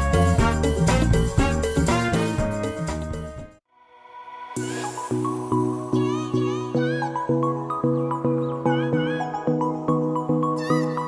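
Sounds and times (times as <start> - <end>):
background music with steady beat: 0.0 - 3.6, 4.5 - 11.0.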